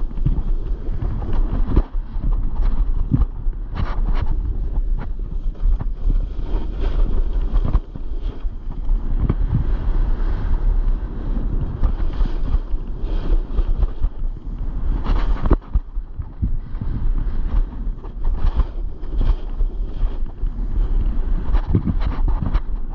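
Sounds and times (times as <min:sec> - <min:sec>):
snowboard scraping over snow: 0:00.0 - 0:22.9
wind buffeting microphone: 0:00.0 - 0:22.9.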